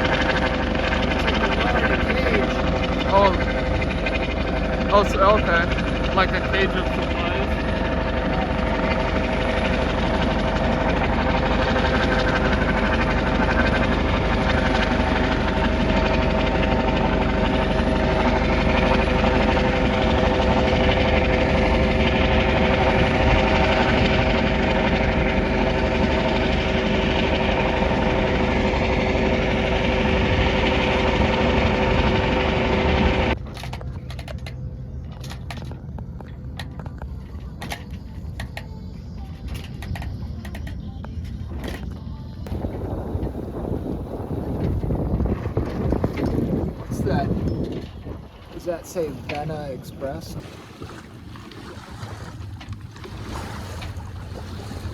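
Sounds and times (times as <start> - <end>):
helicopter hovering drone: 0.0 - 54.9.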